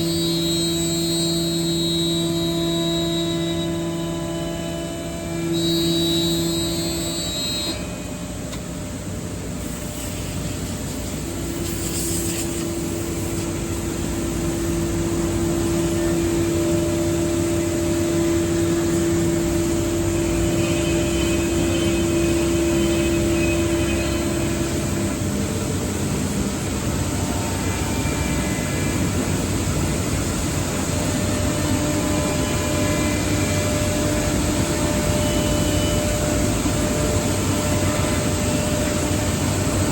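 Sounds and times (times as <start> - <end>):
cnc router running: 0.0 - 39.9.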